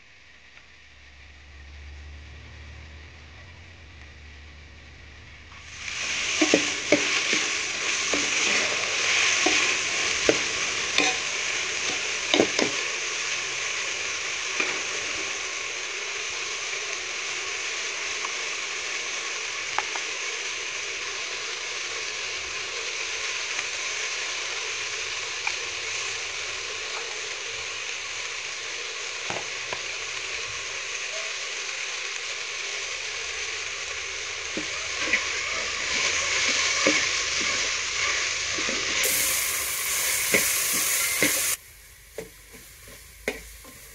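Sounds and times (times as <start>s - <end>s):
onions sizzling in oil: 5.1s - 43.9s.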